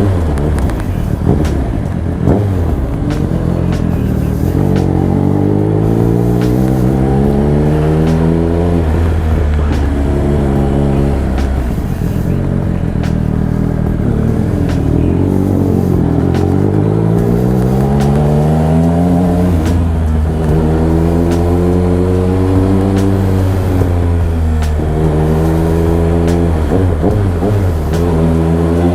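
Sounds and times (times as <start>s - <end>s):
motorcycle engine while riding: 0.0s - 28.9s.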